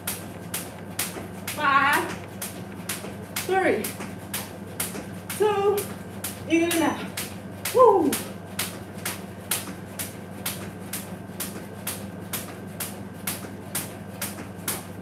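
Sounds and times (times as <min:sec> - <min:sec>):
jump rope striking tiled floor: 0:00.0 - 0:14.9.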